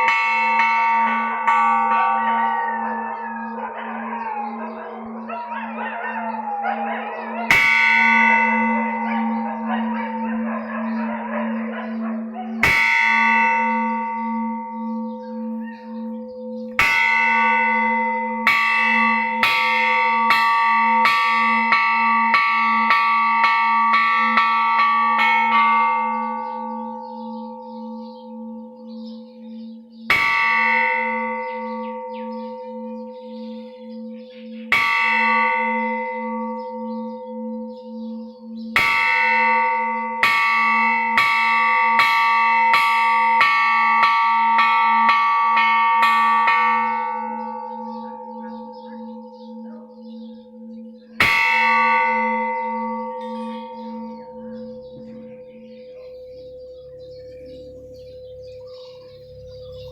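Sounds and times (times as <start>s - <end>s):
temple bell strikes: 0.0s - 5.5s, 6.4s - 59.9s
low pulsing bell hum: 6.4s - 59.9s.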